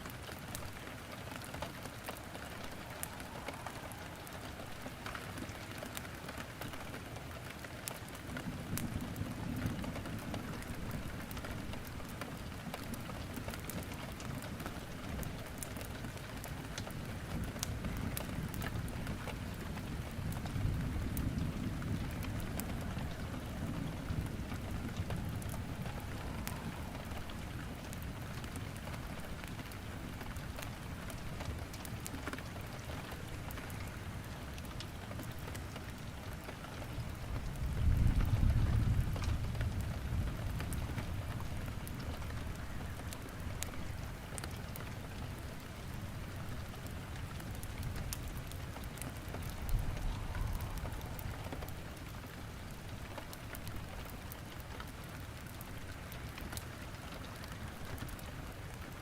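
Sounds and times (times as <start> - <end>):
firewood crackling and popping: 0.0 - 59.0
rain on a surface: 0.0 - 59.0.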